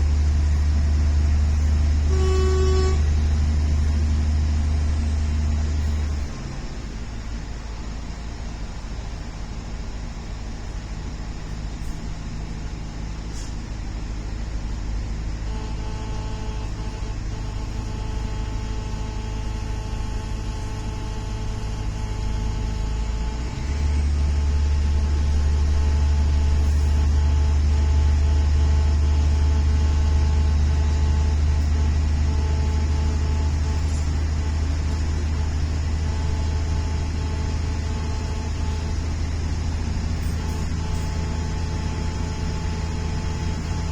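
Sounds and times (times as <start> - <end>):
train drone inside carriage: 0.0 - 43.9.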